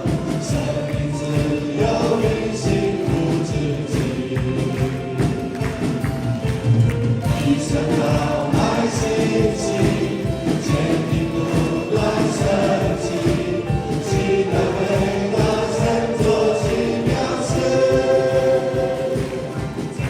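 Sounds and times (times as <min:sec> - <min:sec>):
group of voices singing: 0:00.0 - 0:06.2, 0:07.2 - 0:20.0
band with steady beat: 0:00.0 - 0:20.0.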